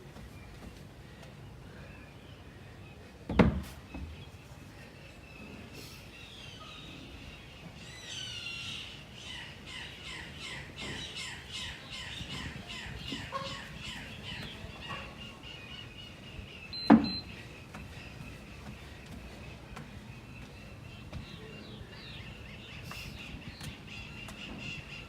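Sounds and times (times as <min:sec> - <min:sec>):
bird chirping: 0:03.8 - 0:25.0.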